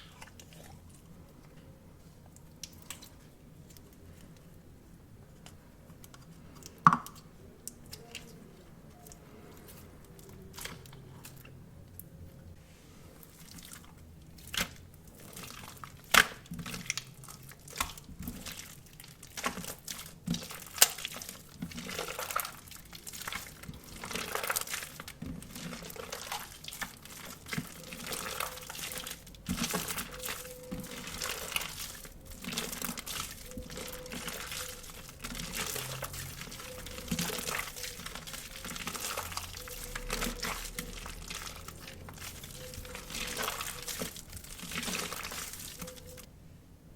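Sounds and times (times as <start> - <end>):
wet slime squishing and crackling: 0.0 - 4.6, 5.3 - 12.5, 13.1 - 46.3.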